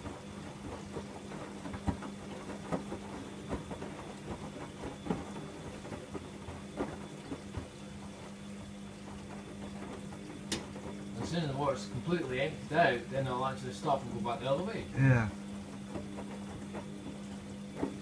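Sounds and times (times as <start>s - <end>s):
washing machine pump hum: 0.0s - 18.0s
wet towels tumbling in drum: 0.0s - 18.0s.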